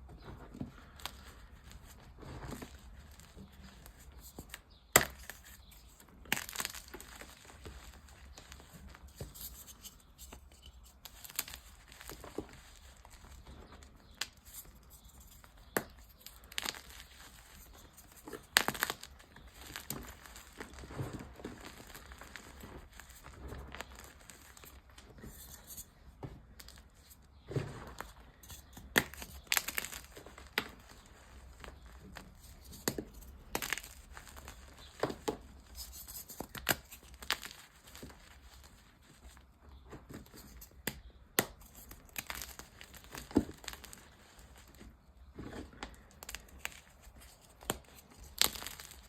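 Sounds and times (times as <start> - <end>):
chalk crunching and crumbling: 0.2 - 49.0.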